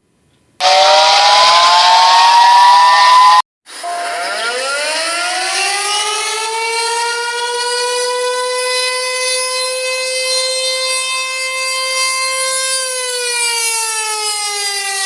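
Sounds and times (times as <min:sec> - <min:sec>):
civil defense siren winding up: 0:00.6 - 0:15.0
hissy siren wail: 0:00.6 - 0:15.0.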